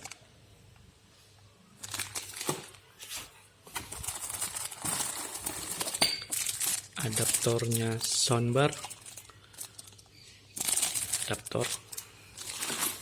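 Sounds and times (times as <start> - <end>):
packaging rustling and crinkling: 1.8 - 13.0.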